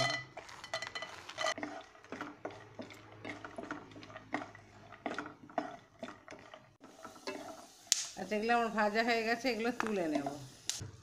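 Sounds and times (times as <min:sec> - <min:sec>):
spatula stirring nuts in a pan: 0:00.0 - 0:10.5.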